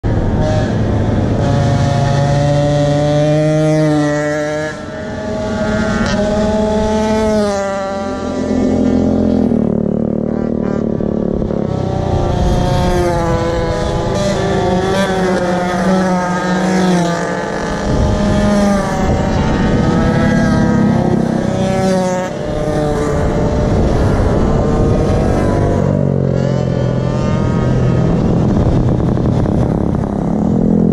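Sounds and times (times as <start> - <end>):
small scooter engines passing: 0.1 - 30.9.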